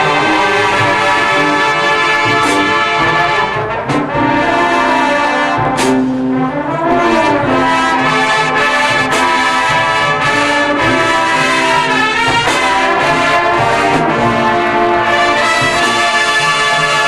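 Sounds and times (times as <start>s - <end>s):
brass band playing held chords: 0.0s - 17.0s.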